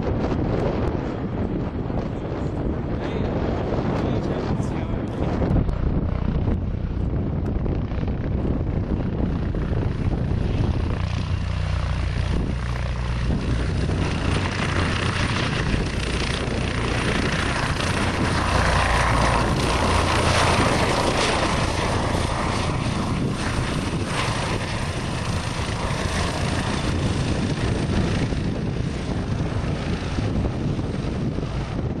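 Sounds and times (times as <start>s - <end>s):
aircraft engine drone: 0.0s - 32.0s
wind buffeting microphone: 0.0s - 32.0s.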